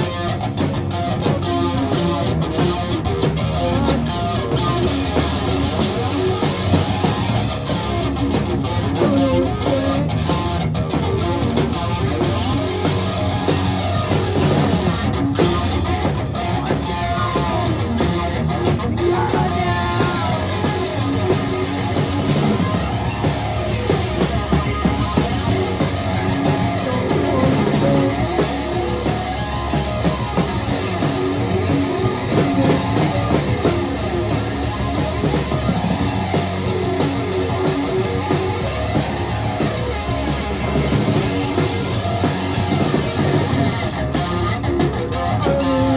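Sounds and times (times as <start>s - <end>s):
rock music with guitar: 0.0s - 45.9s.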